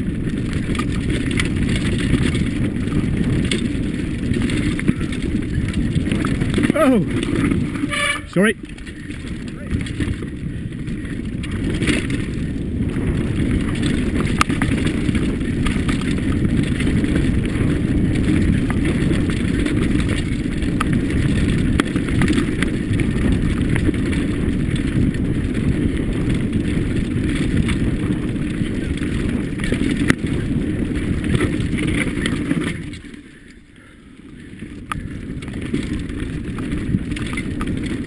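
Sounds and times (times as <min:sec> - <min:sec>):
bike clicks and rattles: 0:00.0 - 0:38.0
bike tyres rumbling on dirt: 0:00.0 - 0:38.0
wind on microphone: 0:00.0 - 0:38.0.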